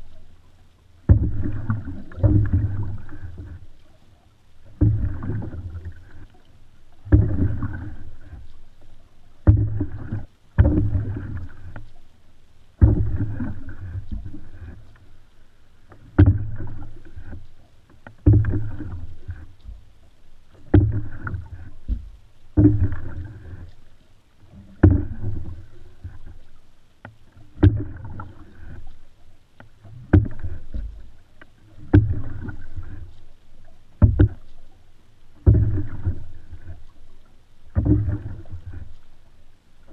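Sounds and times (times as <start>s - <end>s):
paddle knocking canoe: 0.0s - 39.9s
rushing water: 0.0s - 39.9s.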